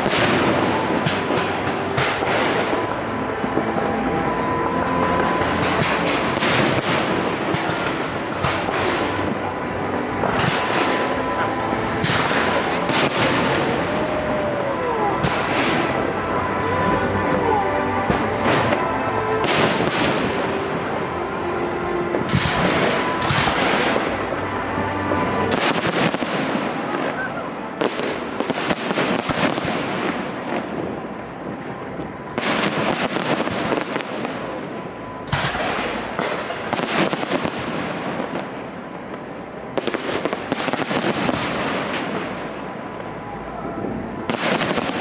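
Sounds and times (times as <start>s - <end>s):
fireworks crackling bursts: 0.0s - 45.0s.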